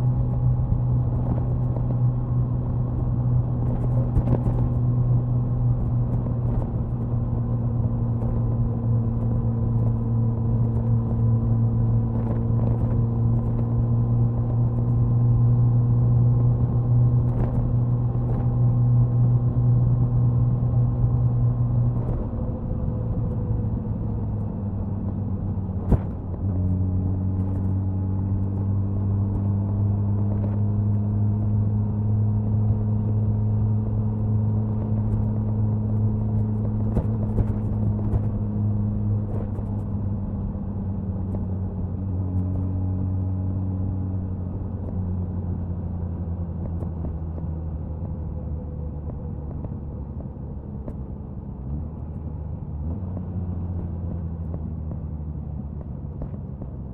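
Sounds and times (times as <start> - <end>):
motorcycle exhaust cruising: 0.0 - 56.9.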